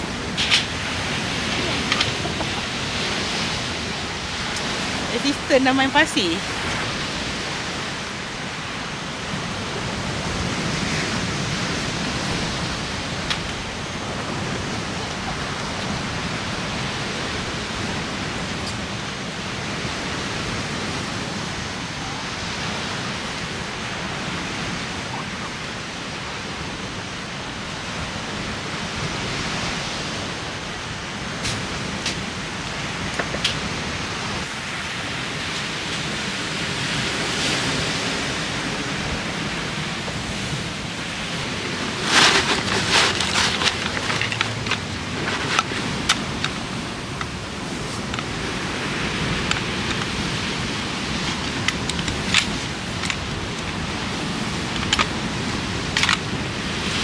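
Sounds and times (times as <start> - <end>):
strong wind: 0.0 - 57.0
surf on a beach: 0.0 - 57.0.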